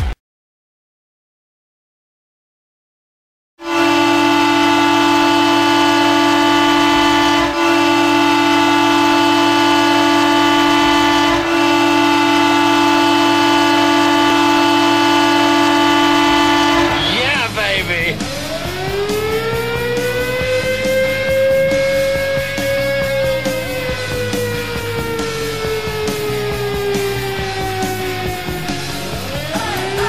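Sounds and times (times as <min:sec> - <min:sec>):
goal horn blast: 0:03.6 - 0:28.4.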